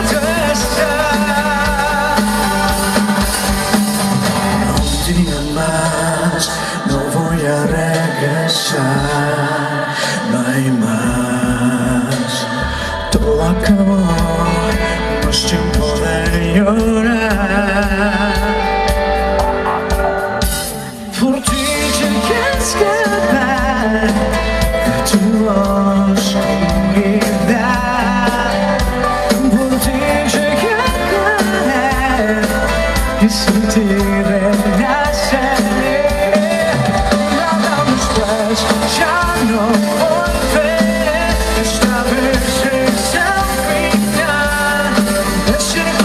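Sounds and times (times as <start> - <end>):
bass: 0.0 - 9.5, 10.3 - 46.0
steady drum beat: 0.0 - 9.8, 10.8 - 46.0
pop-rock song with singer: 0.0 - 46.0.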